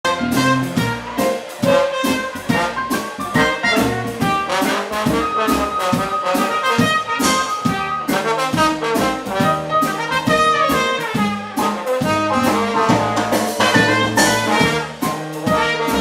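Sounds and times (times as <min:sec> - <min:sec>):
jazz band playing: 0:00.0 - 0:16.0
trombone: 0:00.0 - 0:16.0
trumpet: 0:00.0 - 0:16.0.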